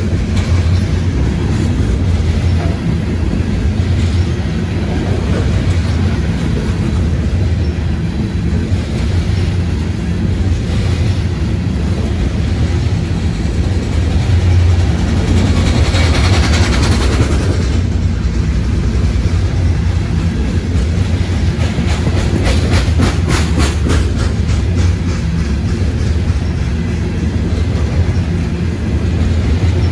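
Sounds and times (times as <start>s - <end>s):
freight train wheels rumbling: 0.0s - 29.9s
wheels clicking over rail joints: 0.0s - 29.9s.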